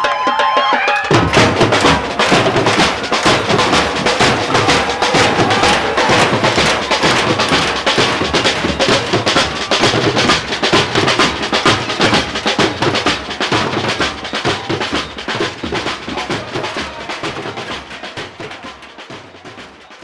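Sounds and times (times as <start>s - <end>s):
drum band playing: 0.0s - 20.0s.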